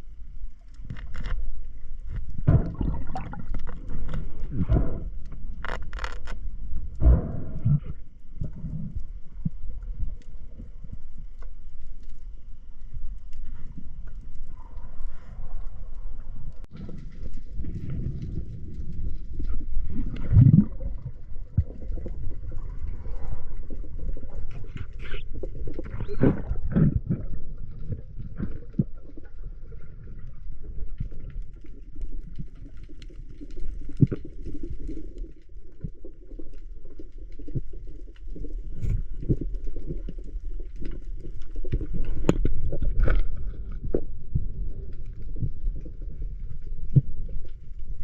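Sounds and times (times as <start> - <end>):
underwater rumble: 0.0 - 48.0.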